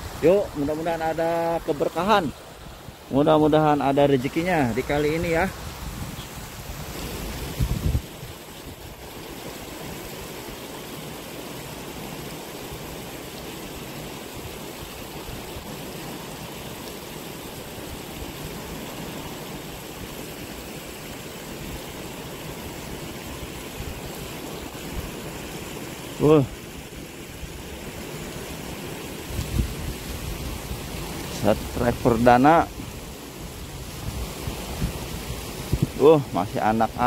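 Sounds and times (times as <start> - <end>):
stream water flowing: 0.0 - 37.0.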